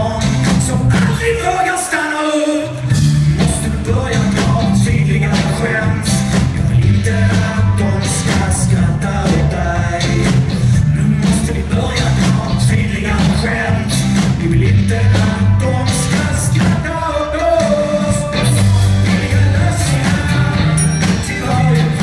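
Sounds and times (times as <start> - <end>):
rock band playing: 0.0 - 2.0, 2.6 - 22.0
person singing: 0.0 - 22.0.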